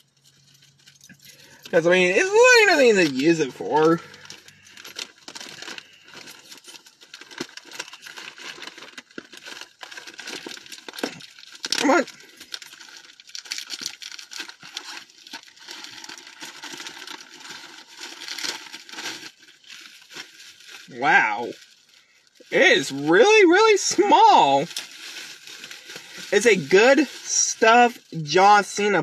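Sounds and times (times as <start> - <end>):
packaging crinkling and tearing: 0.0 - 29.0.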